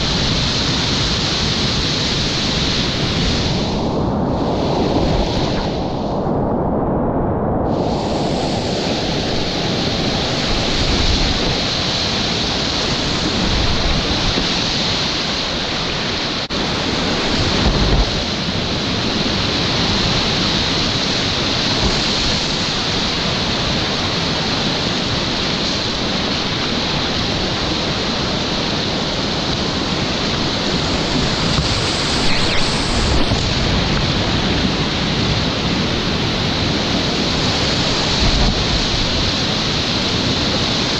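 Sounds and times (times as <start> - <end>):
whitewater rapids rushing: 0.0 - 5.9, 7.7 - 40.9.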